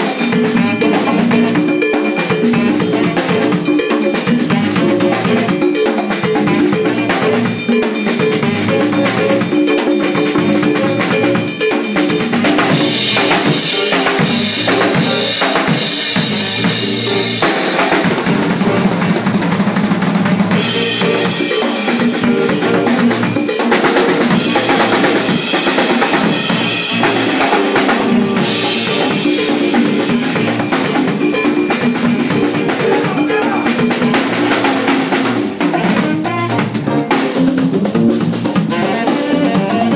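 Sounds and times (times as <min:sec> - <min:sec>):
cowbell: 0:00.0 - 0:18.1, 0:20.5 - 0:36.6
latin jazz combo playing: 0:00.0 - 0:39.9.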